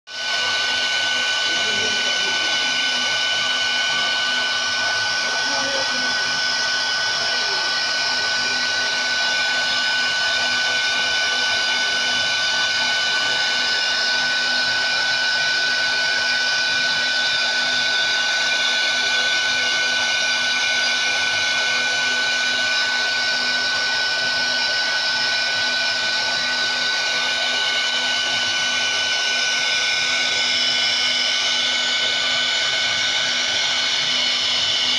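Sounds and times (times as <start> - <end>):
wood router spindle whining: 0.1 - 34.9.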